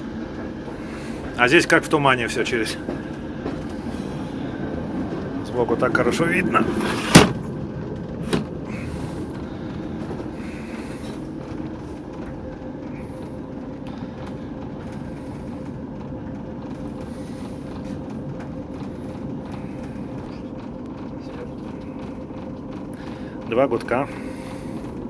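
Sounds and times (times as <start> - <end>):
constant hum-like tone: 0.0 - 25.0
locomotive engine and rail drone: 0.0 - 25.0.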